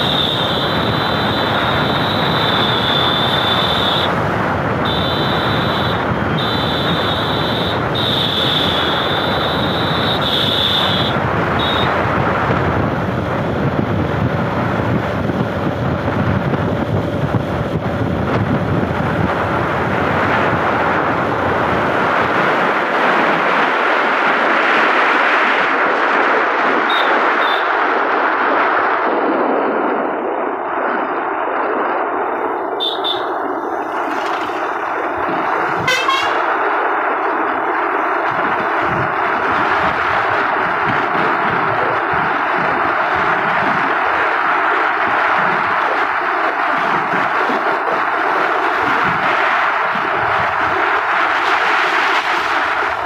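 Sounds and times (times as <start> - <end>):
vehicle road noise: 0.0 - 53.0
wind buffeting microphone: 0.0 - 53.0.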